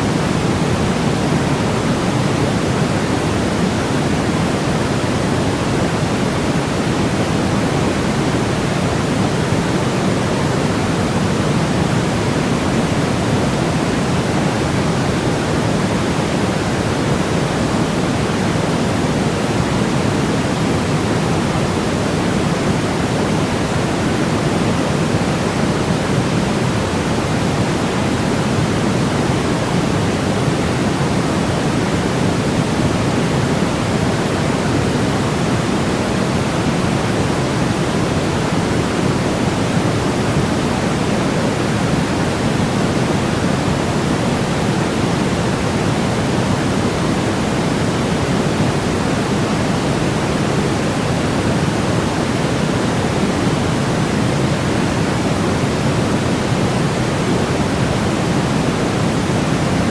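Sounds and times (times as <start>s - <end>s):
steady pink noise hiss: 0.0s - 59.9s.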